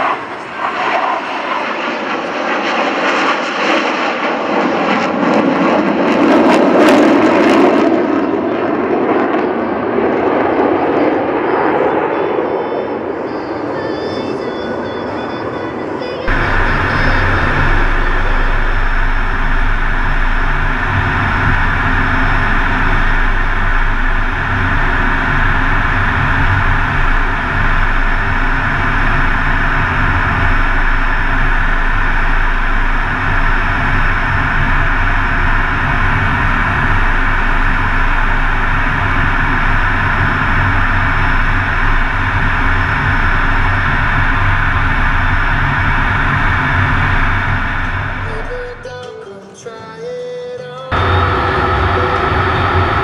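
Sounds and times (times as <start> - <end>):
cockpit low hum: 0.0 - 49.2, 50.9 - 53.0
jet engine and airflow hiss: 0.0 - 53.0.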